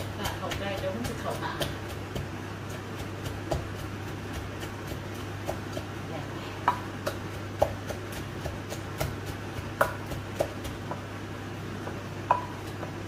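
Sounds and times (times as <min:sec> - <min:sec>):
pestle pounding in a mortar: 0:00.0 - 0:11.2, 0:11.8 - 0:13.0
steady low hum: 0:00.0 - 0:13.0.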